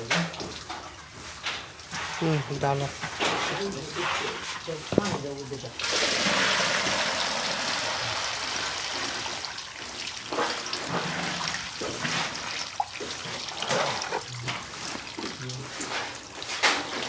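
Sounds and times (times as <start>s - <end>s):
water pouring and splashing: 0.0s - 17.0s.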